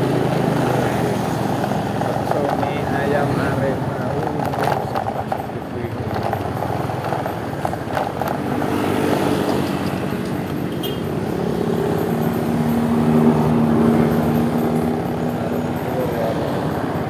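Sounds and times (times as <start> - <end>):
vehicle engines in traffic: 0.0 - 17.0.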